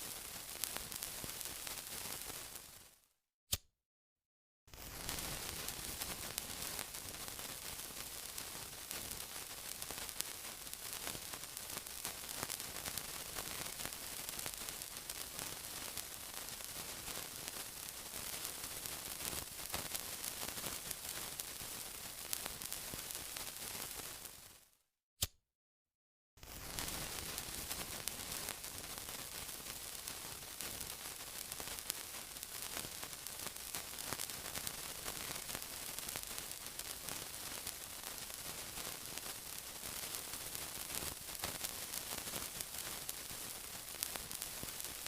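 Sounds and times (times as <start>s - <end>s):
sizzling with crackles and pops: 0.0s - 3.6s, 4.7s - 25.3s, 26.4s - 45.0s.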